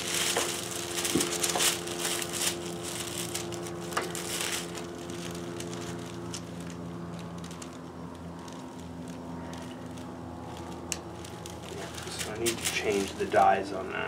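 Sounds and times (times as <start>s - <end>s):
tool parts rustling: 0.0s - 13.7s
steady low hum: 0.0s - 14.0s.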